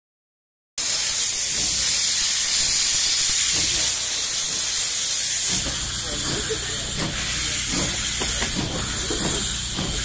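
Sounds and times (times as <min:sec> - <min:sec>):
steam locomotive venting steam: 0:00.8 - 0:10.0.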